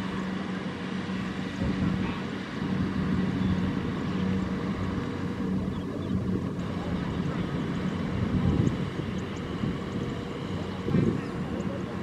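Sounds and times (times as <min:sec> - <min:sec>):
diesel engines humming: 0:00.0 - 0:12.0.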